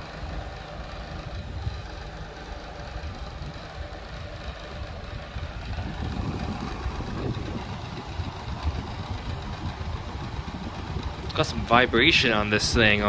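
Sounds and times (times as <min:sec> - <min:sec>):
box fan running: 0:00.0 - 0:13.0.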